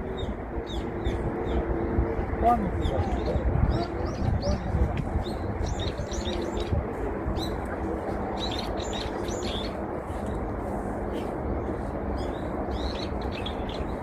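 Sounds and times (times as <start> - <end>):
small birds chirping: 0.0 - 10.4, 11.0 - 14.0.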